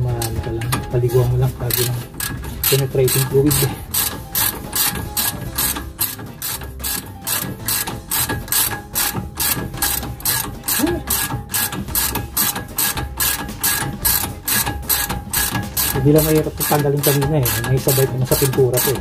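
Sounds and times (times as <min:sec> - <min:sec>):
socket ratchet clicking: 0:01.6 - 0:19.0.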